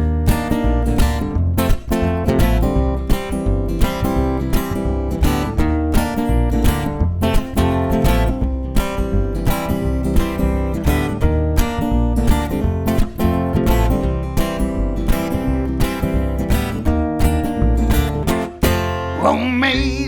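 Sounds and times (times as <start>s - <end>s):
acoustic guitar strumming: 0.0s - 20.0s
upright bass line: 0.0s - 20.0s.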